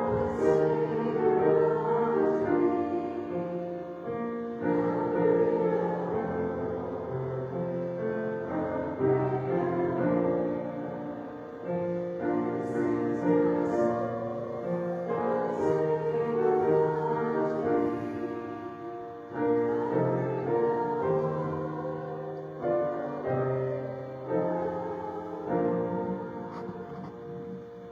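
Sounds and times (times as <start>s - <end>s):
slow church music on keyboard: 0.0s - 27.9s.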